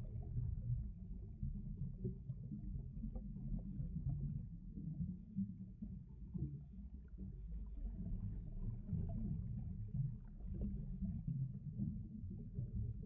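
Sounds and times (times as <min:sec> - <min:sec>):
muffled underwater bubbling: 0:00.0 - 0:13.0.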